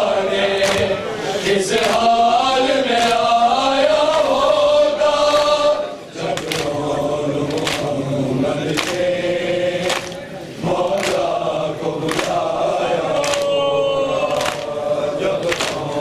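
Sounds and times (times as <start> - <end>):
group chanting: 0.0 - 16.0.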